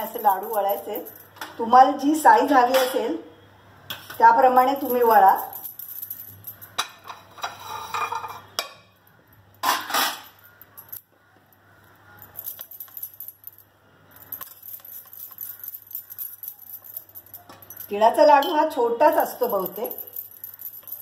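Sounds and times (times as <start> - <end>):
bangles jingling and clinking: 0.0 - 1.7, 4.2 - 21.0.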